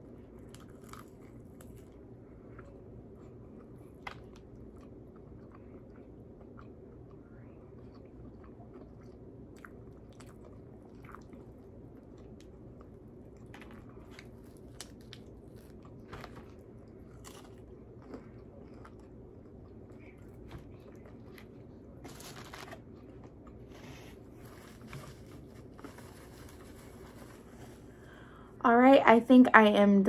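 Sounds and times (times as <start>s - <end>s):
person chewing crispy food: 0.0s - 27.8s.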